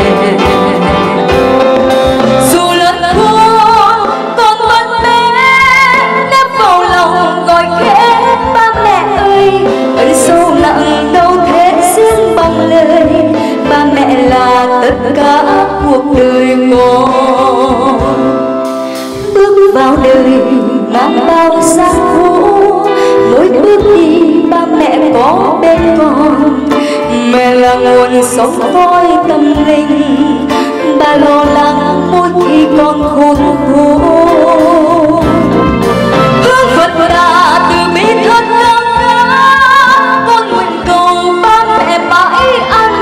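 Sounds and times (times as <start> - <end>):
woman singing a ballad: 0.0 - 1.6, 2.2 - 18.5, 19.2 - 35.8, 36.4 - 43.0
drums: 0.0 - 43.0
electric guitar: 0.0 - 43.0.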